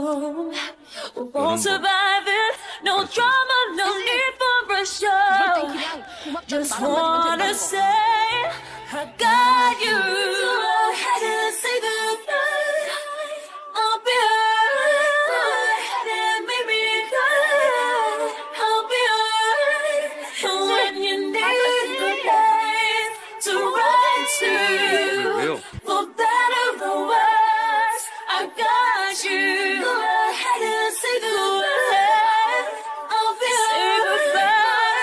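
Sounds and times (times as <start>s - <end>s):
harmonised singing voices: 0.0s - 35.0s.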